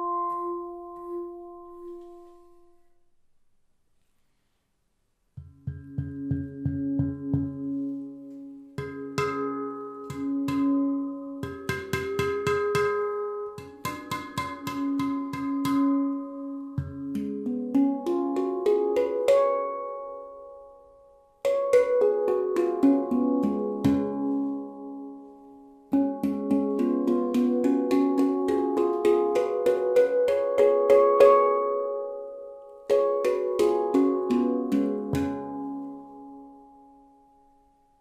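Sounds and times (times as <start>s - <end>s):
handpan ringing notes: 0.0s - 2.9s, 5.4s - 37.8s.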